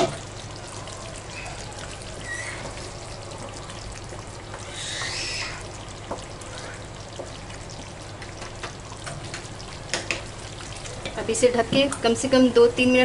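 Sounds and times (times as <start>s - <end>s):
gravy sizzling in a frying pan: 0.0s - 13.0s.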